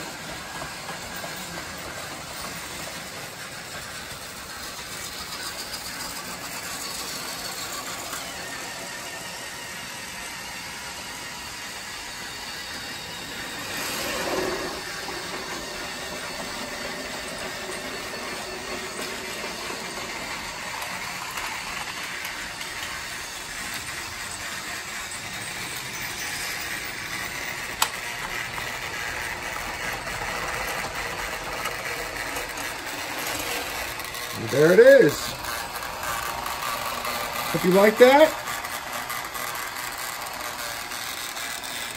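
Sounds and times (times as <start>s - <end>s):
toy coaches rattling: 0.0s - 9.7s, 12.5s - 41.9s
toy train motor whirring: 0.0s - 41.9s.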